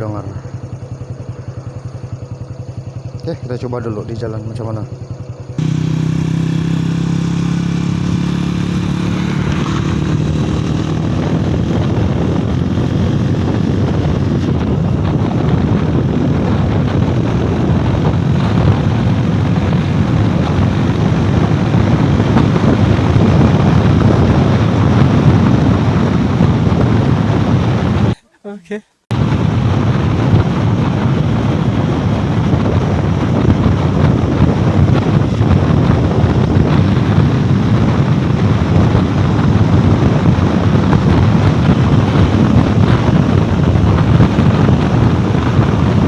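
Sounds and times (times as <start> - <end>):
motorcycle engine running: 0.0 - 28.3, 29.1 - 46.0.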